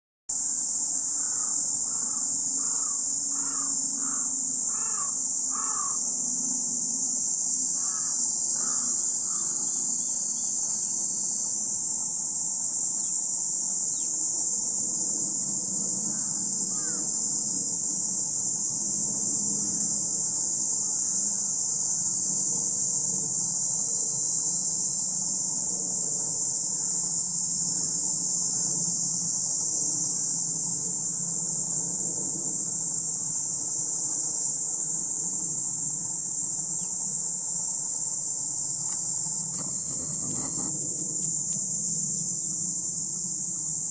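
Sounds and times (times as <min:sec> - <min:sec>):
insects singing: 0:00.3 - 0:43.9.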